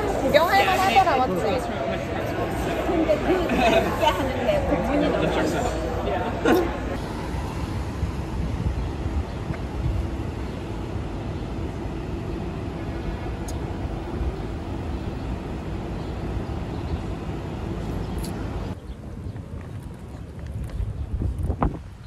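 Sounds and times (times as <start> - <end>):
cars passing and idling: 0.0 - 22.0.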